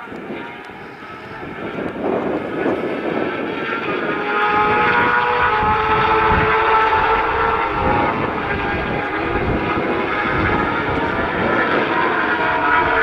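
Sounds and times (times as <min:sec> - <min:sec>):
racing motorcycle engines high revs: 0:01.3 - 0:13.0.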